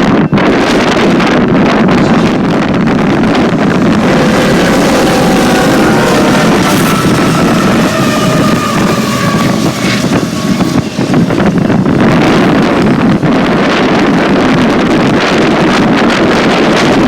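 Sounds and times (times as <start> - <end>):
wind buffeting microphone: 0.0 - 17.0
freight train rumbling past: 0.1 - 17.0.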